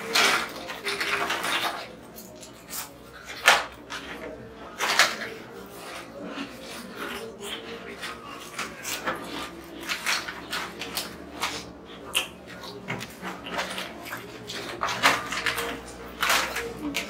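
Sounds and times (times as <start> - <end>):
chips being chewed: 0.0 - 17.0
foil packet crinkling: 0.0 - 17.0.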